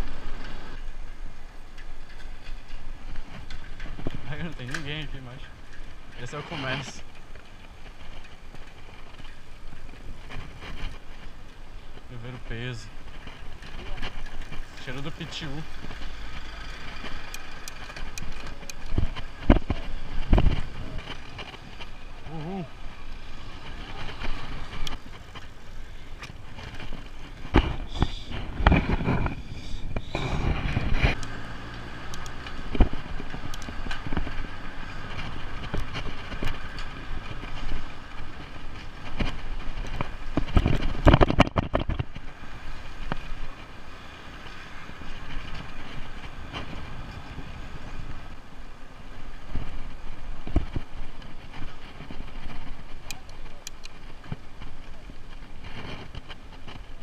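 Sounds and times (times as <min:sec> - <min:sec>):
bicycle rattles: 0:00.0 - 0:57.0
bicycle tyre and chain noise: 0:00.0 - 0:57.0
wind on microphone: 0:02.0 - 0:57.0.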